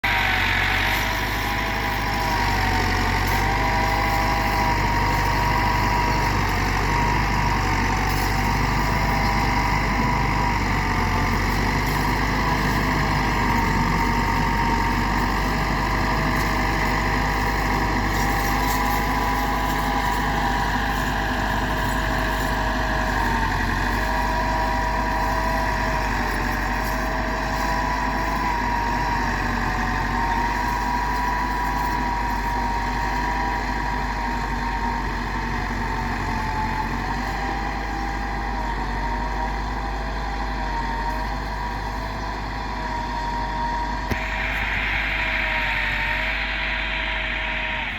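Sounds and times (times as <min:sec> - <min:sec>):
high-pitched whine: 0:00.0 - 0:47.9
tractor diesel engine running: 0:00.0 - 0:47.9.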